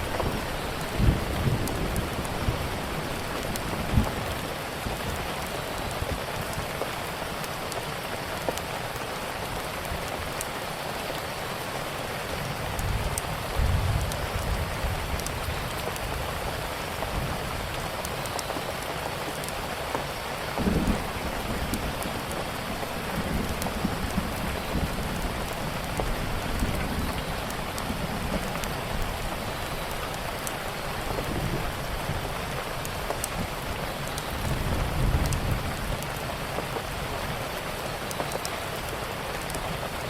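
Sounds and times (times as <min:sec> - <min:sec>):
steady rain hiss: 0:00.0 - 0:40.0
wood fire crackling: 0:00.0 - 0:40.0.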